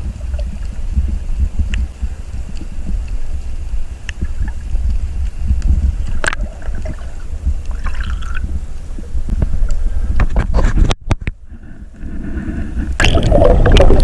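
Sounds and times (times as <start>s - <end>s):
sea water at shore: 0.0s - 14.0s
wind buffeting microphone: 0.0s - 14.0s.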